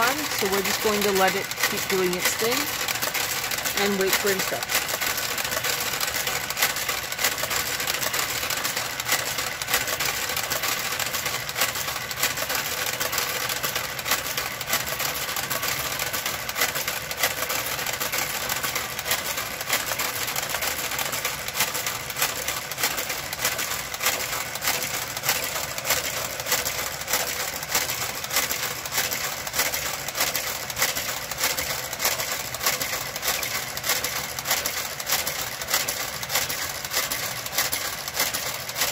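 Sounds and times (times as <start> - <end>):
knitting machine motor hum: 0.0 - 38.9.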